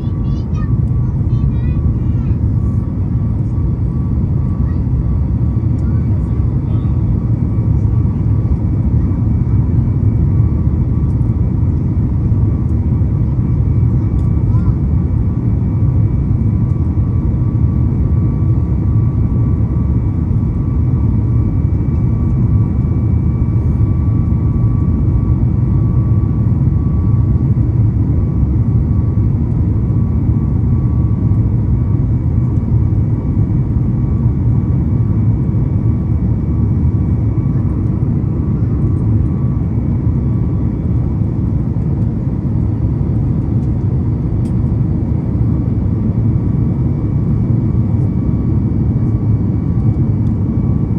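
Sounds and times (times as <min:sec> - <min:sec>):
engines and airflow roar: 0:00.0 - 0:50.9.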